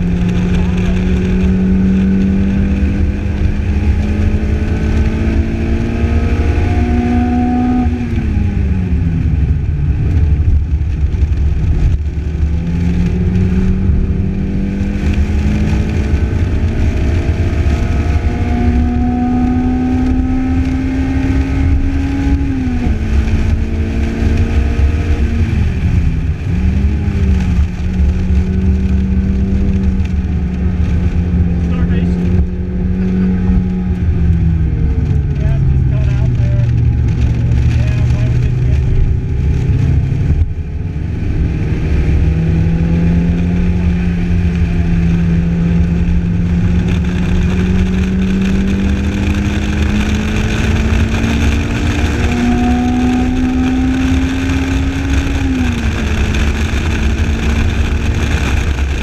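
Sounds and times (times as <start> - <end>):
car engine at speed: 0.0 - 59.0
heavy wind: 0.0 - 59.0
road rumble: 0.0 - 59.0.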